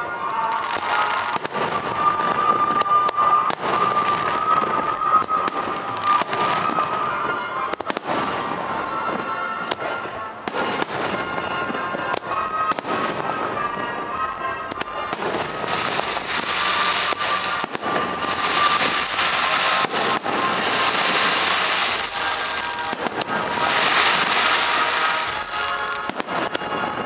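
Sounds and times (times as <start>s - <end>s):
fireworks bangs: 0.0s - 27.0s
fireworks crackle: 0.0s - 27.0s
steady high tone: 0.0s - 27.0s.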